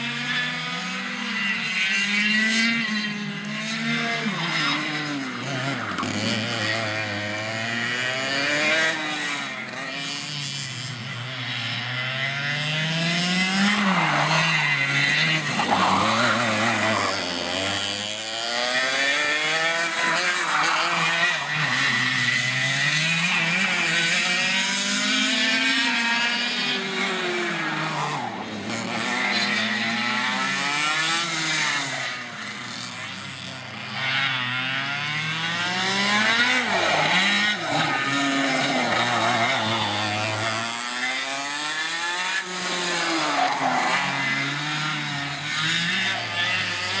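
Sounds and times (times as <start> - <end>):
go-kart engines revving: 0.0 - 47.0.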